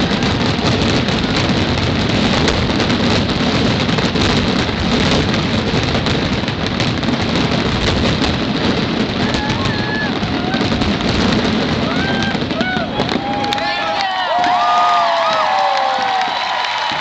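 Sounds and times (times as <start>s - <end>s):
fireworks bursts and crackles: 0.0s - 17.0s.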